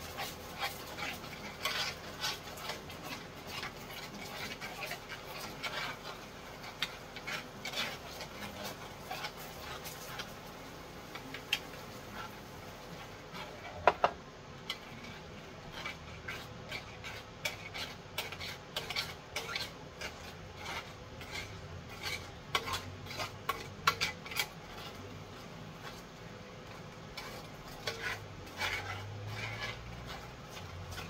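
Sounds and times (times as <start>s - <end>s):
utensil scraping metal tray: 0.0s - 10.3s, 11.1s - 31.0s.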